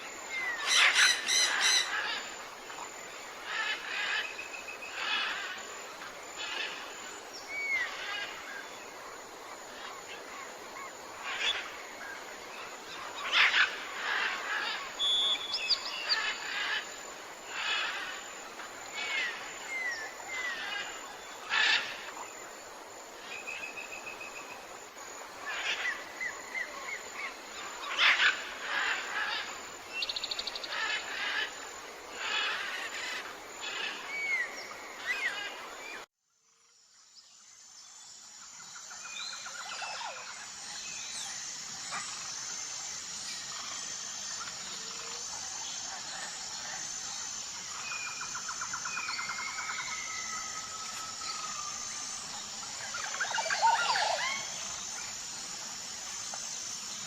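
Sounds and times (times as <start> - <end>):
birds calling and trilling: 0.0 - 5.8, 9.8 - 22.3, 25.4 - 36.1, 38.8 - 57.0
high pulsing insect chirr: 0.0 - 57.0.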